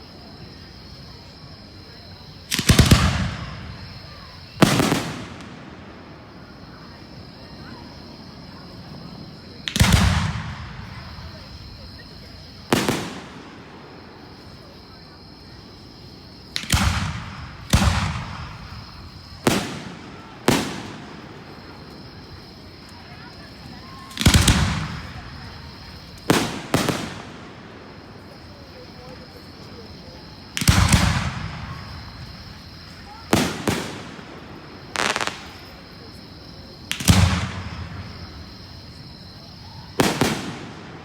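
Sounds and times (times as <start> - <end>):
fireworks crackling bangs: 2.4 - 7.1, 9.0 - 14.7, 15.9 - 41.0.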